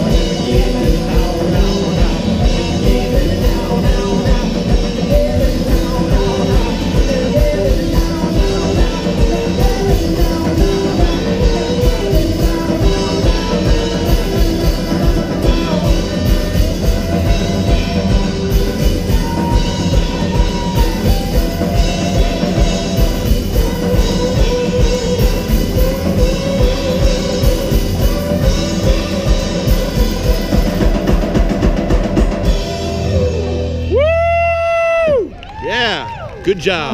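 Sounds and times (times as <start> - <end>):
guitar melodic line: 0.0 - 34.8
drum kit beat: 0.0 - 36.0
bass guitar: 0.0 - 36.9.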